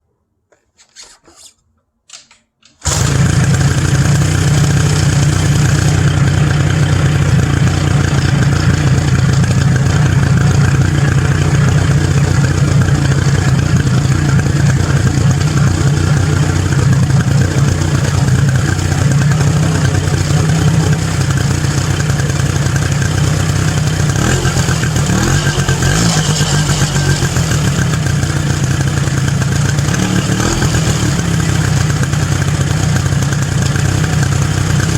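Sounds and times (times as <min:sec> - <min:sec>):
engine starting and idling: 0:02.6 - 0:34.9.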